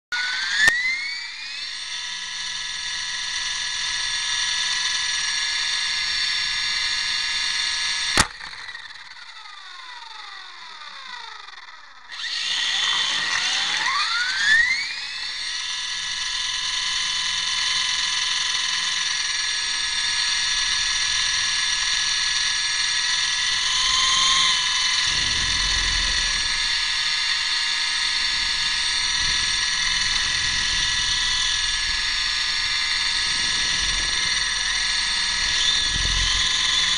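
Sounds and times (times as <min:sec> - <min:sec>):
model helicopter motor whine: 0:00.1 - 0:36.9.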